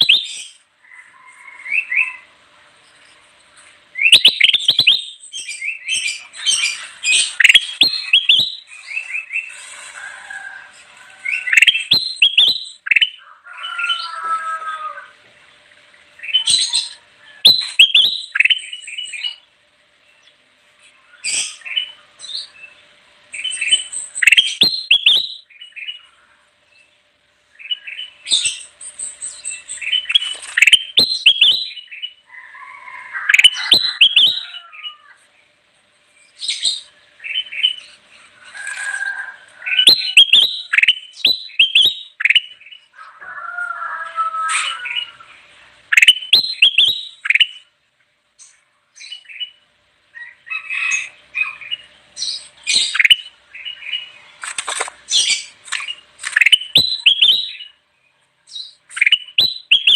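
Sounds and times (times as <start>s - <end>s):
bulbul singing: 0.0s - 3.3s, 3.9s - 9.8s, 10.8s - 14.2s, 15.6s - 32.3s, 33.1s - 35.1s, 36.1s - 38.1s, 39.6s - 43.0s, 44.5s - 47.7s, 48.4s - 54.4s, 55.0s - 59.9s.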